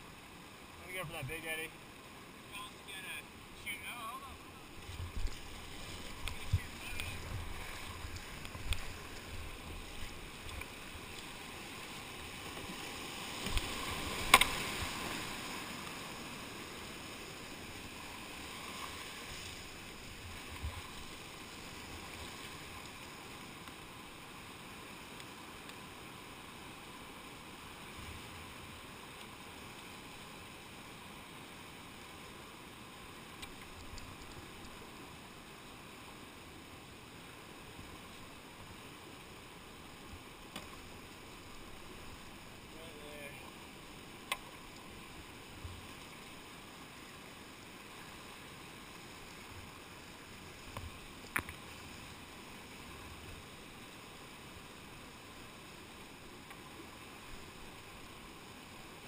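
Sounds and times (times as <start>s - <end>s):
rushing whitewater rapid: 0.0s - 59.0s.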